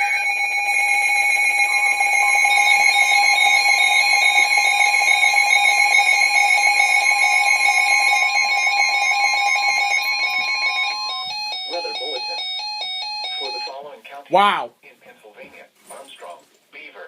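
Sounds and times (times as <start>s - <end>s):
electronic alarm tones: 0.0s - 13.8s
repeating beeps: 0.0s - 13.8s
steady warning tone: 0.0s - 13.8s.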